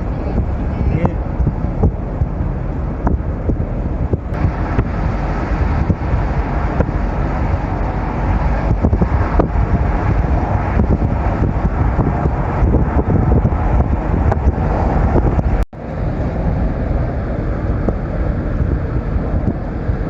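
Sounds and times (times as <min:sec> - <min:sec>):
car engine and tyre rumble: 0:00.0 - 0:20.0
wind noise: 0:00.0 - 0:20.0.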